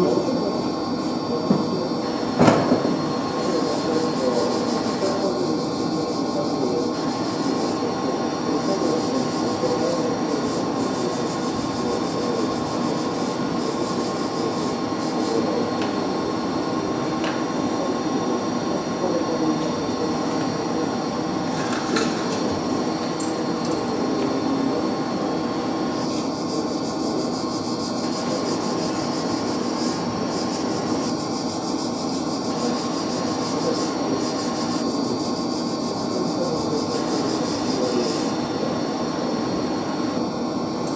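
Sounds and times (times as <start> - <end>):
hot-air blower running: 0.0 - 40.9.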